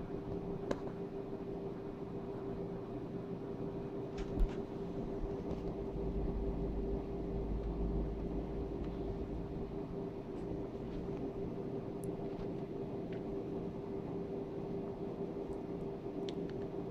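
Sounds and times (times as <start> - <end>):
room noise hum and hiss: 0.0 - 16.9.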